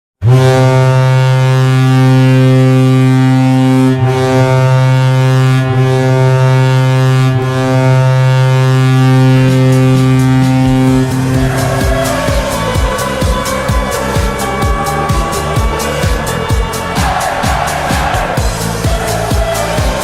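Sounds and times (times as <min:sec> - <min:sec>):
goal horn long low blast: 0:00.2 - 0:20.0.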